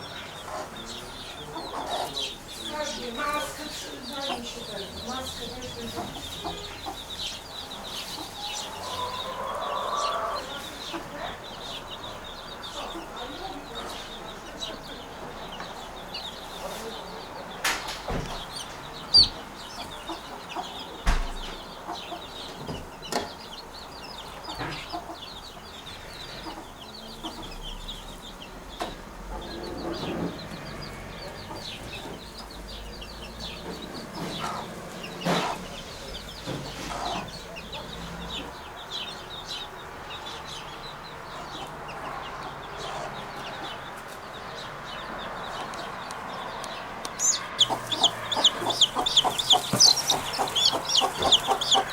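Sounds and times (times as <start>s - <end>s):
low clucking bird calls: 0.0s - 51.9s.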